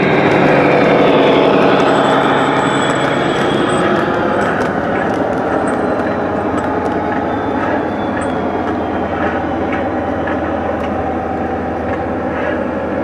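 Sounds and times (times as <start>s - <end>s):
model train rolling rumble: 0.0s - 13.0s
wheels clicking over track: 0.0s - 13.0s.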